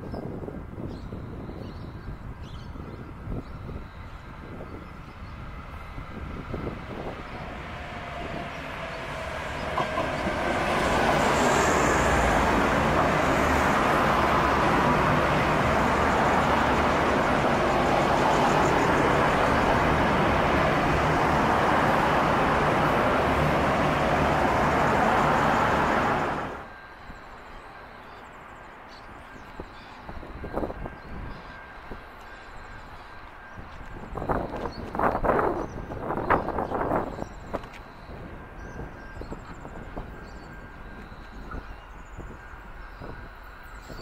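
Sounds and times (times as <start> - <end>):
diesel train passing at speed: 0.0 - 44.0.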